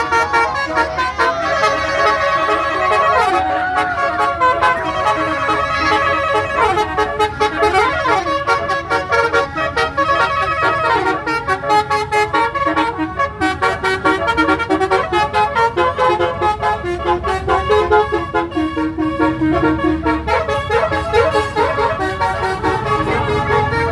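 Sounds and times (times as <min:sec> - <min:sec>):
multi-tone bus horn melody: 0:00.0 - 0:23.9.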